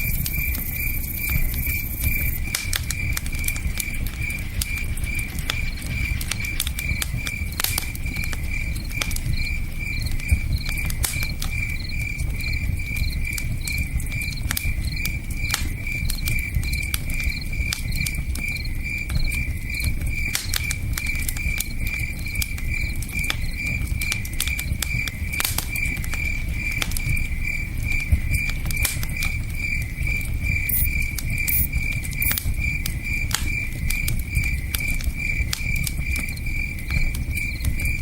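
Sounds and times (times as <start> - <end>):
campfire crackling and popping: 0.0 - 38.0
cricket chirping: 0.0 - 38.0.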